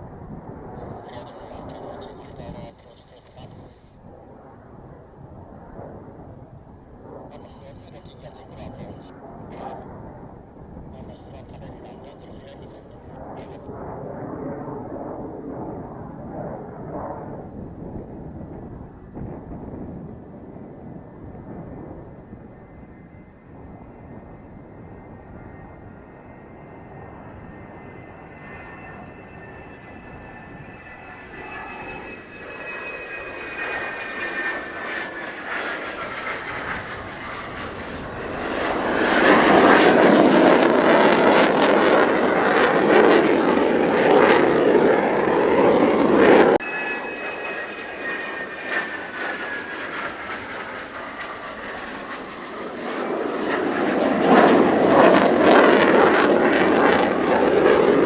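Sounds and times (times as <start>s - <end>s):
fighter jet engine whine and roar: 0.0s - 58.0s.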